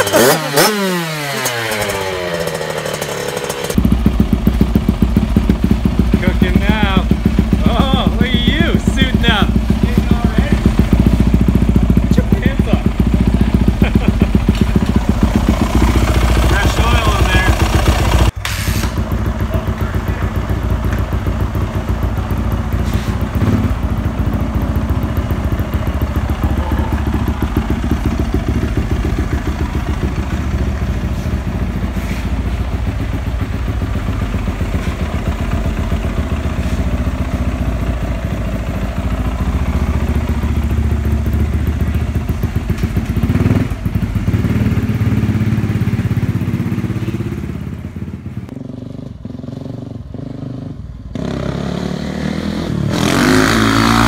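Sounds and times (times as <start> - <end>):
dirt bike engine running: 0.0 - 51.9.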